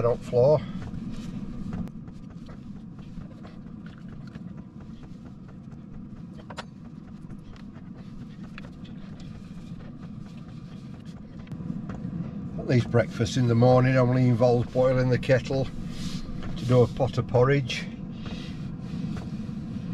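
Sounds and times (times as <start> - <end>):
low machine hum: 0.0 - 19.9.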